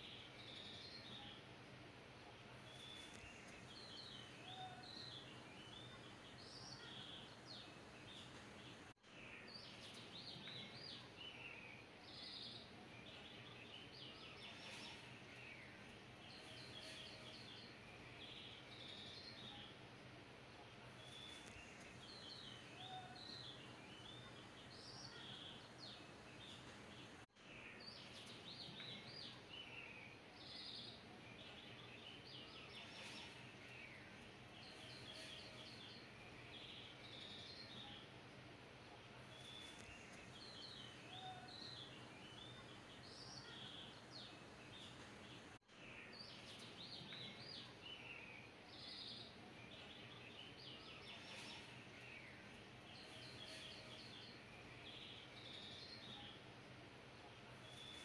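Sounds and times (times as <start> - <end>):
low steady hiss: 0.0 - 58.0
faint bird chirps: 2.3 - 19.8, 20.5 - 38.2, 38.9 - 56.5, 57.1 - 58.0.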